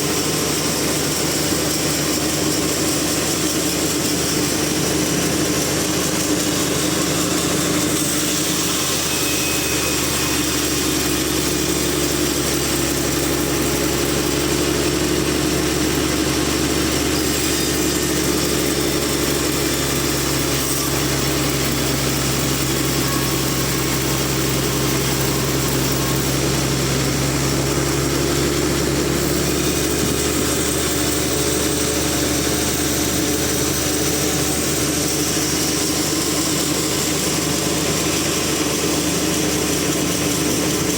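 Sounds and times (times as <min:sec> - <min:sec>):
sawmill machine humming: 0:00.0 - 0:40.9.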